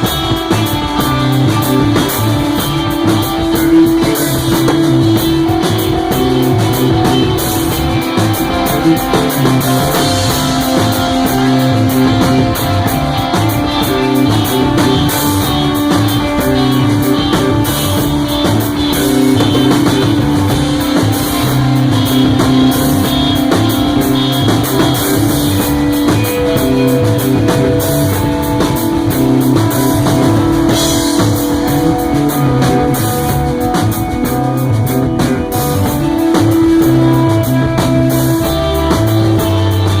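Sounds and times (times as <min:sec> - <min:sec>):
bass guitar: 0:00.0 - 0:40.0
drum kit: 0:00.0 - 0:40.0
electric guitar notes: 0:00.0 - 0:40.0.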